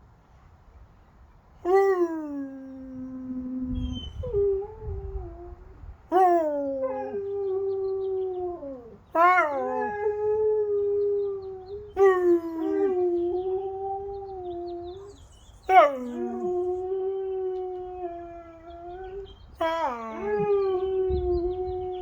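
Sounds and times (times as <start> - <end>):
dog howling: 1.7 - 22.0.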